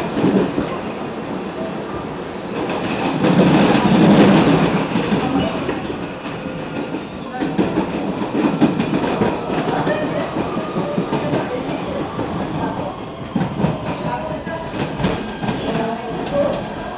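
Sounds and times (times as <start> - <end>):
subway wheels rumbling on track: 0.0 - 16.9.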